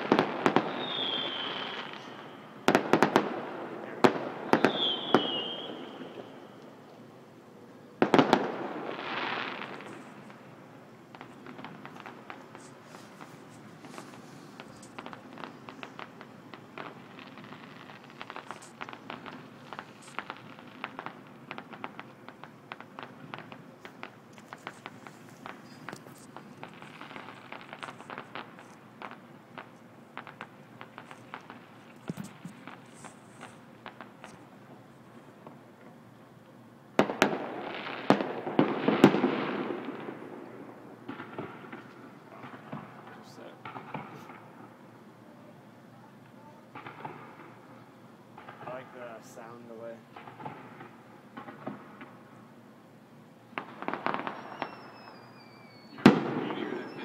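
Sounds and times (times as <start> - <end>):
faint firework pops: 0.0 - 7.0, 8.0 - 10.5, 11.1 - 34.5, 35.4 - 36.0, 37.0 - 44.8, 46.2 - 47.8, 48.4 - 52.2, 53.5 - 57.0
firework bangs: 0.0 - 7.1, 7.8 - 35.8, 36.9 - 45.4, 46.4 - 52.4, 53.4 - 57.0
fireworks crackling: 0.0 - 57.0.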